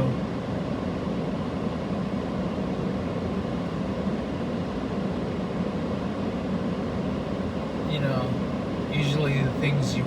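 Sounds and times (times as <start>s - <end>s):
car interior road and engine rumble: 0.0s - 10.0s.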